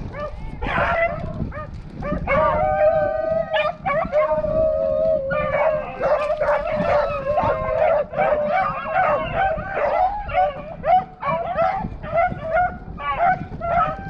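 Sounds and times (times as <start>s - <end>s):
pack of hounds baying: 0.0s - 14.0s.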